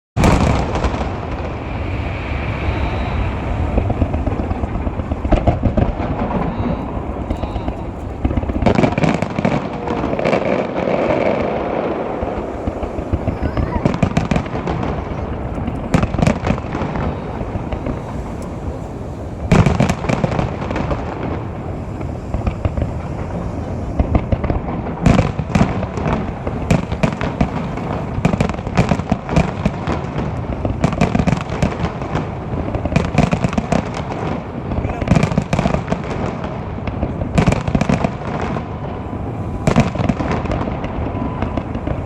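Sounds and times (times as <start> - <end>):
fireworks booming and crackling: 0.2 - 42.0.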